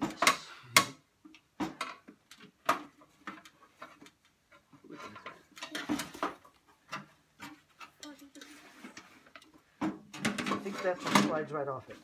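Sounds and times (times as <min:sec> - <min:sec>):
rustling and clatter: 0:01.6 - 0:12.0.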